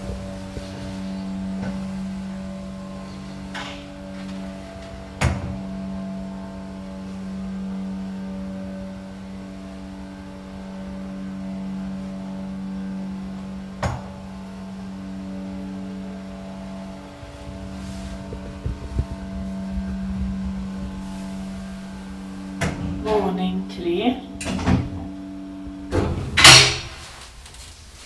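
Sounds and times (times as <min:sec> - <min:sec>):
elevator pump humming: 0:00.0 - 0:28.0.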